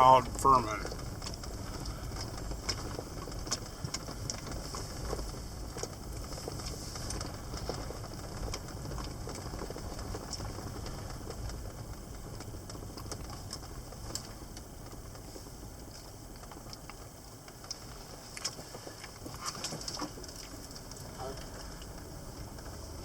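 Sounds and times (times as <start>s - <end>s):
vehicle cabin rumble: 0.0s - 23.0s
light clicks and rattles: 0.1s - 23.0s.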